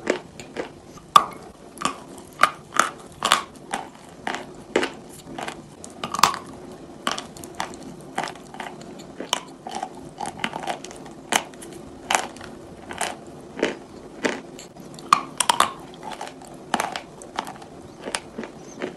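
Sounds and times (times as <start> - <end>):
grinding chews: 0.0 - 18.9.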